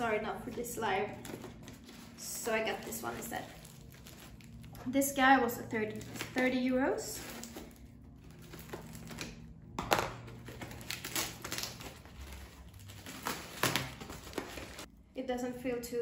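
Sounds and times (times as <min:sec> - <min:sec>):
packaging crinkling: 0:01.1 - 0:04.9, 0:05.8 - 0:14.9.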